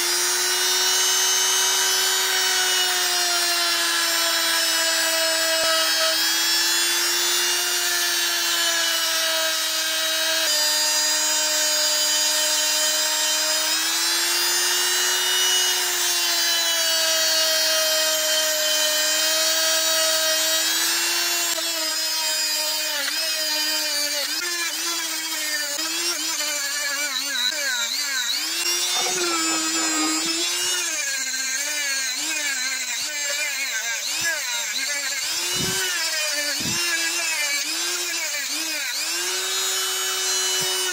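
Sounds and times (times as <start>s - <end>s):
power tool motor running: 0.0s - 40.9s.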